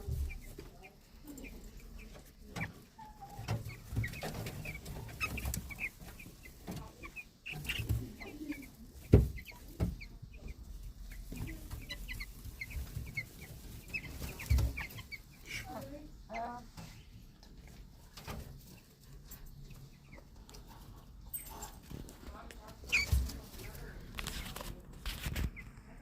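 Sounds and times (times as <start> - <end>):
baby chicks peeping: 0.0 - 26.0.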